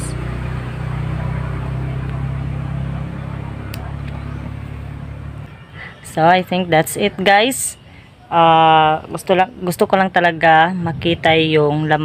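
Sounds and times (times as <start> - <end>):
vehicle engine idling: 0.0 - 9.7.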